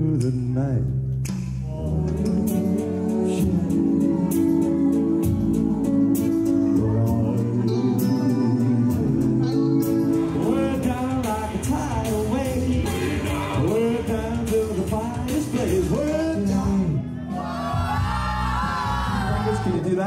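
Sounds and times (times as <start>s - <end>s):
pop song with singing: 0.0s - 20.0s.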